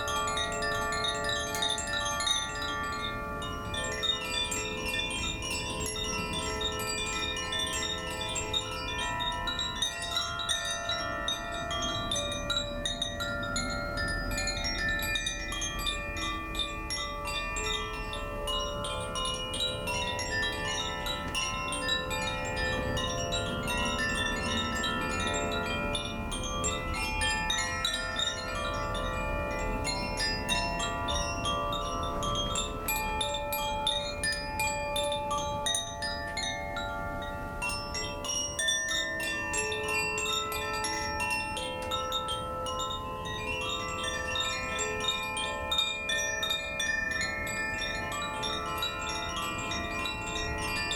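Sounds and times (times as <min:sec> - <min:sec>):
wind chimes ringing: 0:00.0 - 0:50.9.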